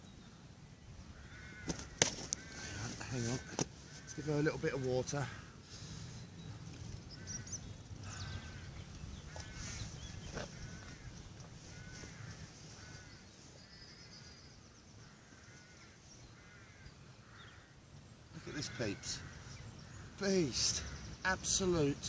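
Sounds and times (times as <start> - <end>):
birds calling: 0.0 - 22.0
higher bird chirps: 4.1 - 22.0.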